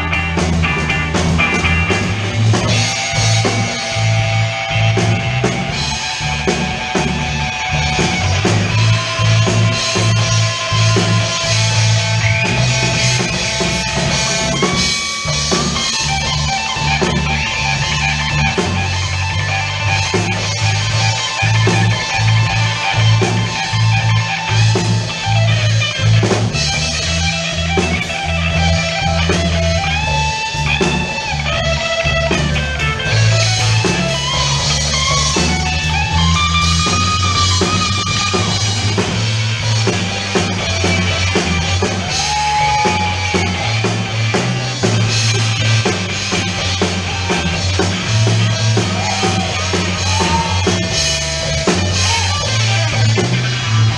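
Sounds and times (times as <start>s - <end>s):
bass line: 0.0s - 53.9s
drum kit: 0.0s - 53.9s
lead guitar melody: 0.0s - 53.9s.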